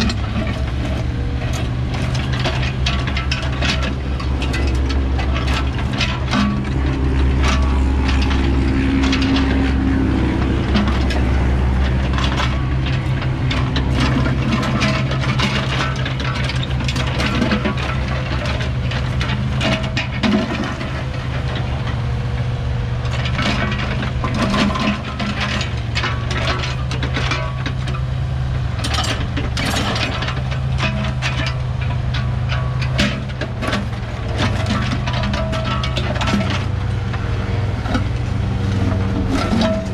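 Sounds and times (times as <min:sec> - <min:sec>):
excavator bucket knocks and clatter: 0:00.0 - 0:22.0, 0:23.0 - 0:28.2, 0:28.8 - 0:39.9
excavator diesel engine running: 0:00.0 - 0:39.9.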